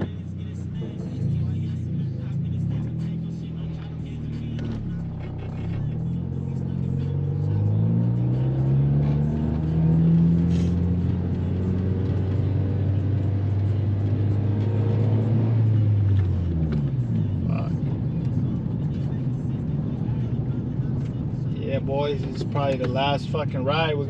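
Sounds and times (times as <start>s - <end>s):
car engine accelerating: 0.0s - 24.0s
driver talking: 0.0s - 24.0s.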